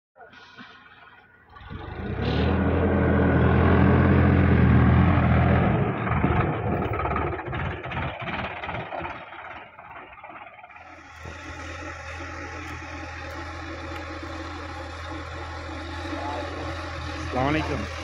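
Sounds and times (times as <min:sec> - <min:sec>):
tractor diesel engine running: 0:00.3 - 0:18.0.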